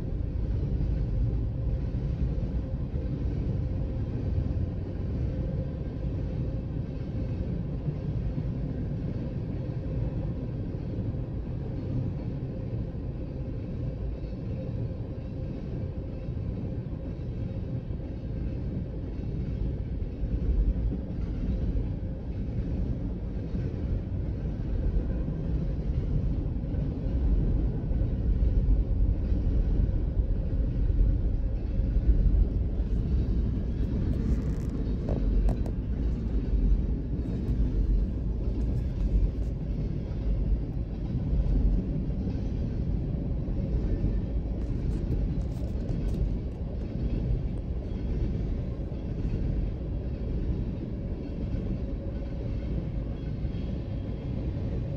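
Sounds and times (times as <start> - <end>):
freight train wheels rumbling on rail: 0.0 - 54.9.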